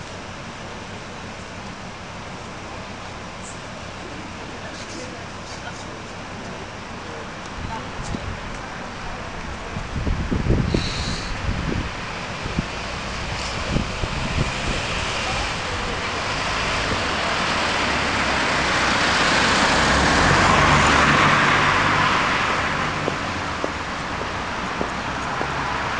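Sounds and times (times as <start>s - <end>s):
vehicle passing on road: 4.3s - 25.9s.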